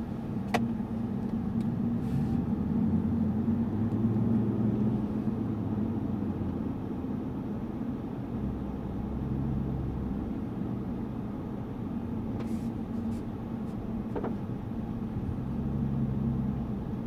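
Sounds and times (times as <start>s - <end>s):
car low steady hum: 0.0s - 17.0s.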